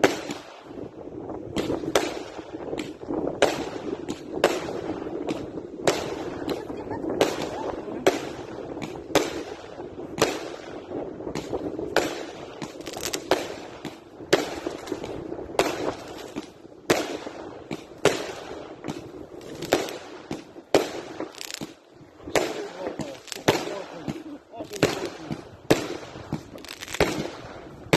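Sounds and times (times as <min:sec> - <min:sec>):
fireworks bangs: 0:00.0 - 0:27.9
fireworks crackling: 0:00.0 - 0:27.9.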